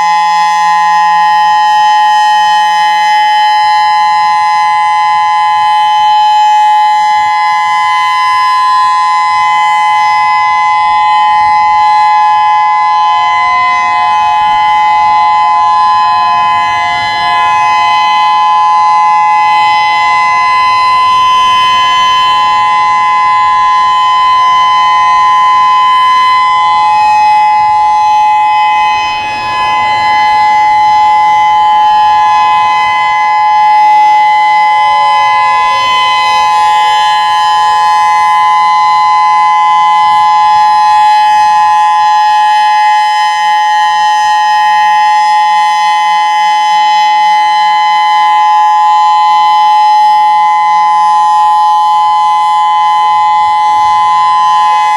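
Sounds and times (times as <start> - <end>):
outdoor warning siren tone: 0.0 - 54.9.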